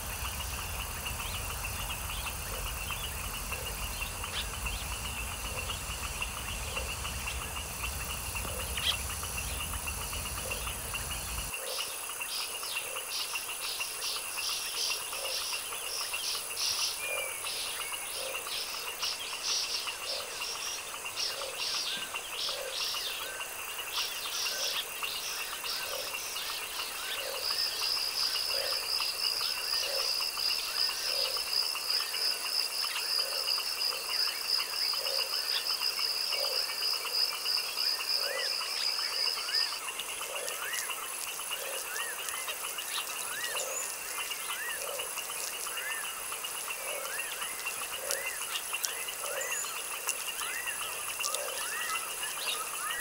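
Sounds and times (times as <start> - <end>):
frogs croaking: 0.0 - 53.0
high insect trill: 0.0 - 53.0.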